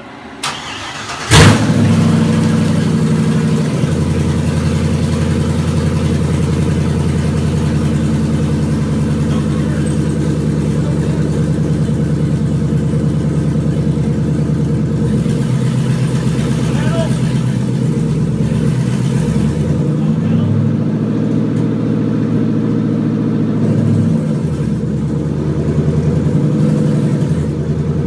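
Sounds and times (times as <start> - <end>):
engine starting and idling loudly: 0.4 - 28.0.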